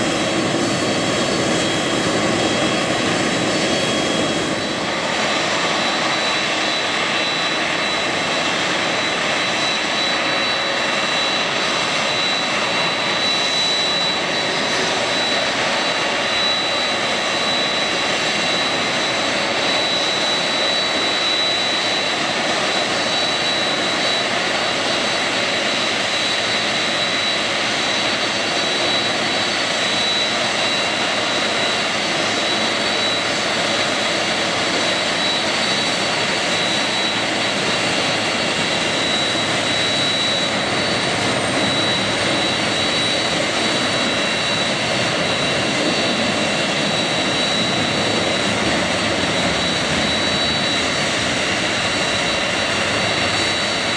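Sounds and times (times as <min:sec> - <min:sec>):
high-pitched engine whine: 0:00.0 - 0:53.9
jet engines roaring: 0:00.0 - 0:53.9.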